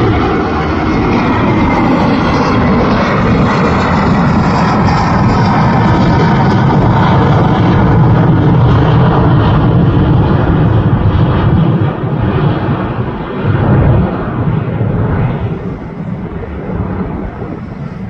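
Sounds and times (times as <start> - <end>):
jet engines roaring overhead: 0.0 - 18.0.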